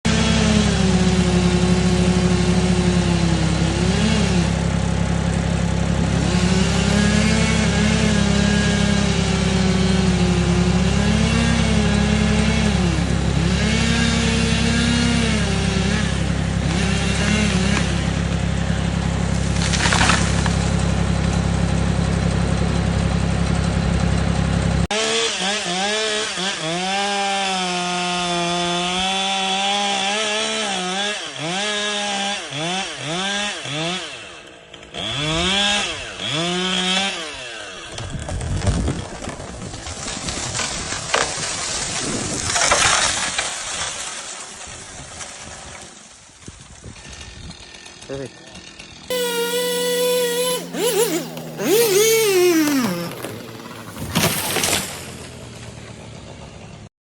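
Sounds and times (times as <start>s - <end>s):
chainsaw cutting wood: 0.0s - 43.8s, 46.8s - 56.8s.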